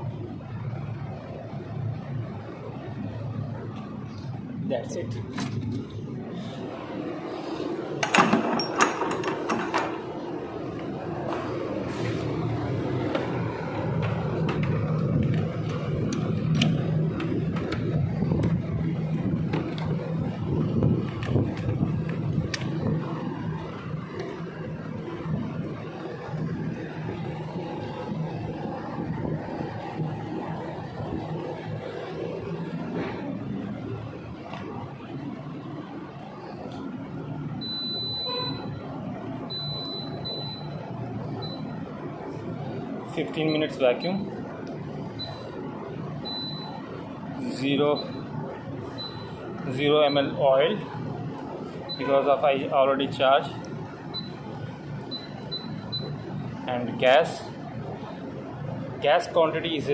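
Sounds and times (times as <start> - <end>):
vacuum pump running: 0.0 - 59.9.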